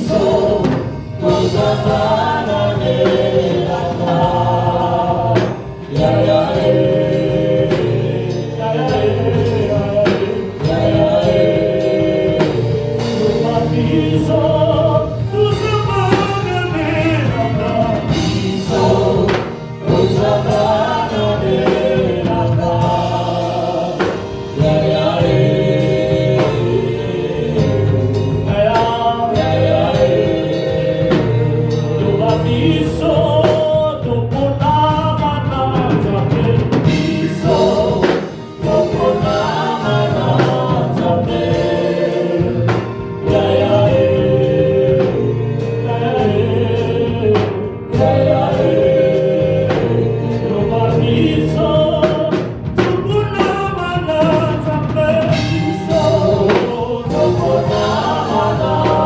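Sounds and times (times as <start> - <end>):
band with bass and beat: 0.0 - 59.0
gospel choir singing: 0.0 - 59.0.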